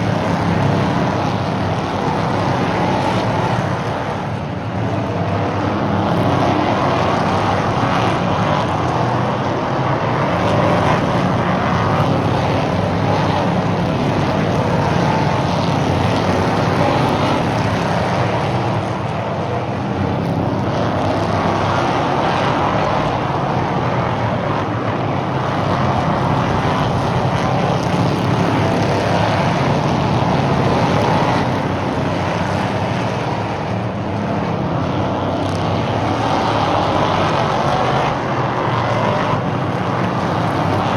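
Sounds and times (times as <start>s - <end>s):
race car engines droning: 0.0s - 40.9s.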